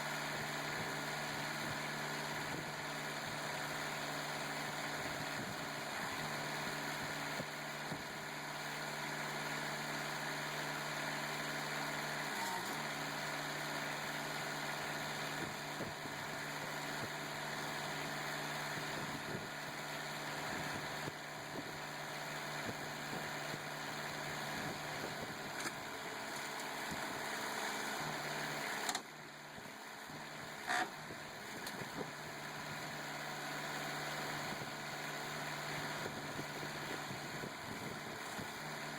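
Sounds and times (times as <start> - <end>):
hydraulic power unit humming: 0.0 - 38.9.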